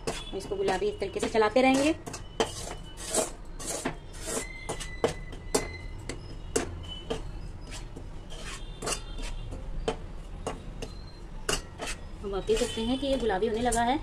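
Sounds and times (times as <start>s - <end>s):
metal spoon scraping a pan: 0.0s - 14.0s.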